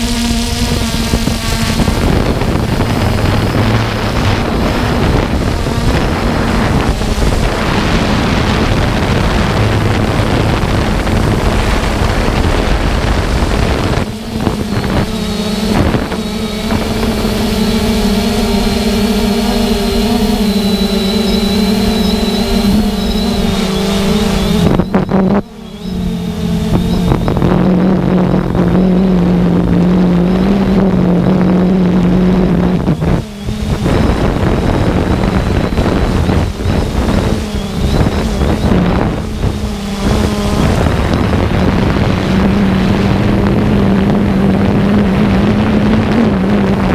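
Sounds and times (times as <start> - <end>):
drone motors and propellers humming: 0.0 - 46.9
wind buffeting microphone: 0.0 - 46.9.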